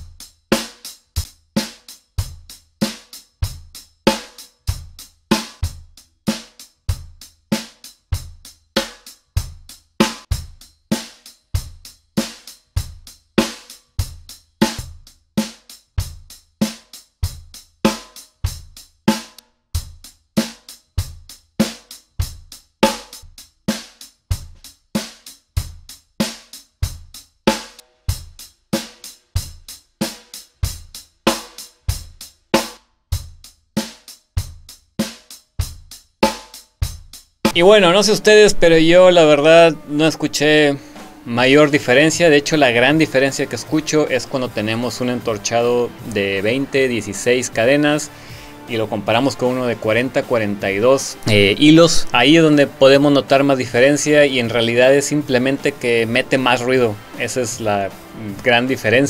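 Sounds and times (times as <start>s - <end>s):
drum kit playing a steady beat: 0.0s - 59.0s.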